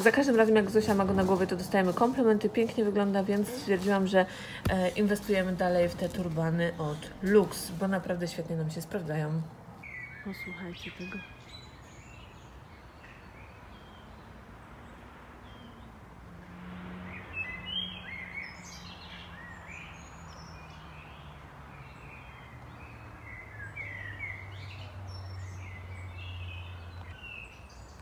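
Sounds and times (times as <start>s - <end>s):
songbirds singing: 0.0s - 16.2s, 16.9s - 28.0s.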